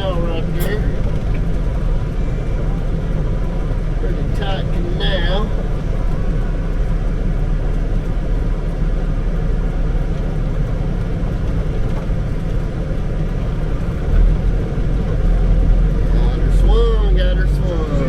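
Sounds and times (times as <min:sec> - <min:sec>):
truck diesel engine rumble: 0:00.0 - 0:18.0.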